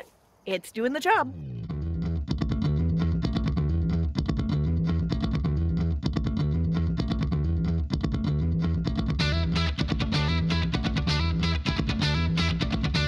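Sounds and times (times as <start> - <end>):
bass: 1.0 - 13.0
guitar: 1.3 - 13.0
steady beat: 1.5 - 13.0.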